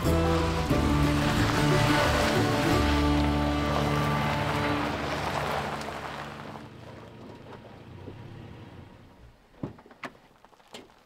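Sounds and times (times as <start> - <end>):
pickup truck rolling on gravel: 0.0 - 8.4, 9.8 - 11.0
engine rumble: 0.0 - 10.3.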